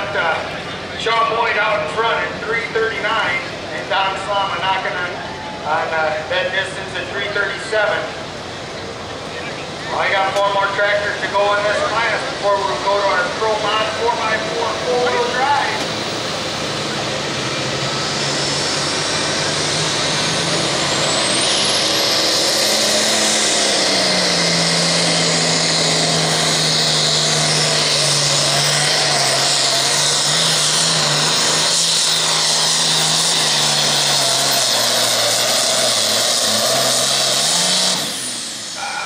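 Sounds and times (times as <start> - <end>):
diesel tractor engine at full throttle: 0.0 - 39.0
high turbo whine: 0.0 - 39.0.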